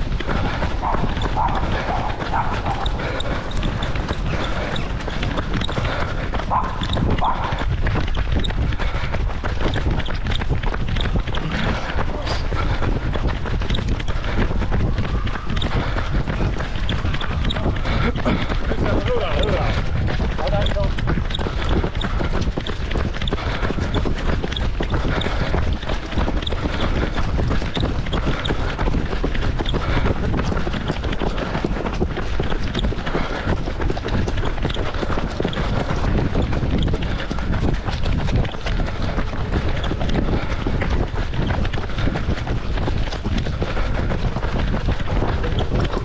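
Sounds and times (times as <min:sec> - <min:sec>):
running footsteps on wet road: 0:00.0 - 0:46.0
wind buffeting microphone: 0:00.0 - 0:46.0.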